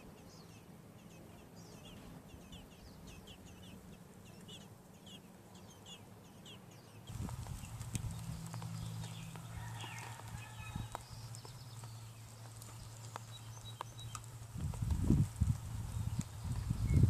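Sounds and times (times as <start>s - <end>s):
baby birds peeping: 0.0s - 17.0s.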